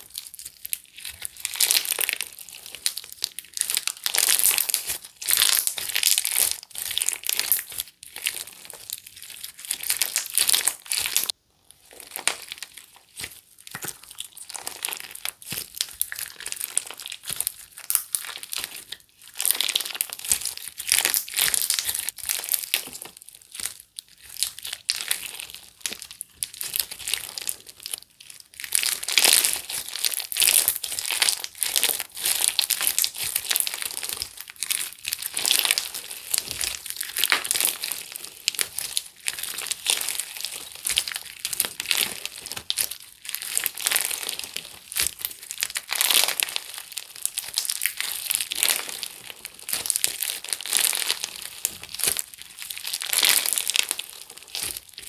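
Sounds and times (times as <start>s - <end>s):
slime crackling and popping: 0.0s - 55.0s.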